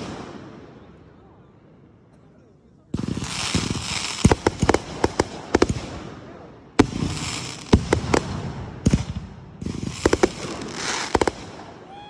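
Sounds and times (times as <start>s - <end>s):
fireworks crackling: 0.0s - 0.9s, 2.9s - 12.0s
fireworks exploding: 0.0s - 1.2s, 2.9s - 12.0s.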